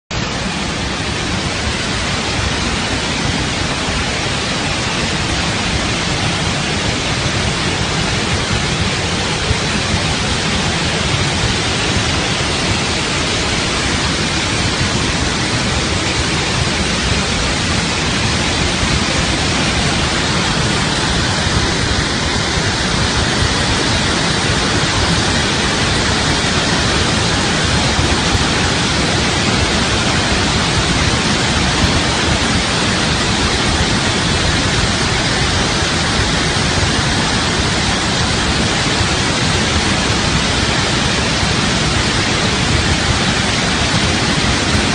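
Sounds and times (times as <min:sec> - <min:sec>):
floodwater rushing through spillway: 0:00.1 - 0:44.9.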